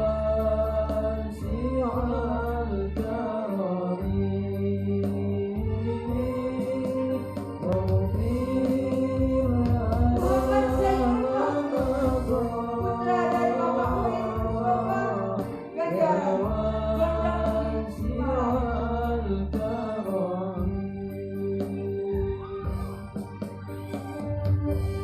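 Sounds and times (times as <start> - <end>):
male choir singing slow song: 0.0 - 23.0
low accompaniment: 0.0 - 25.0.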